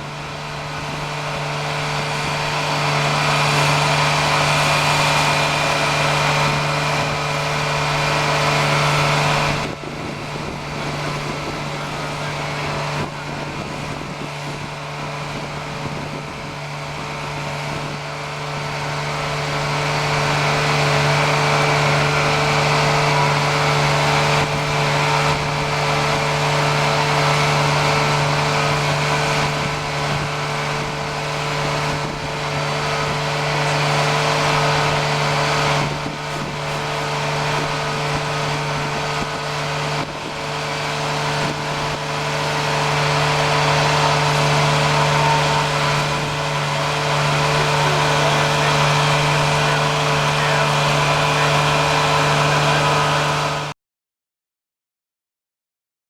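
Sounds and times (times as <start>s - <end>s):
blower truck running: 0.0s - 53.8s.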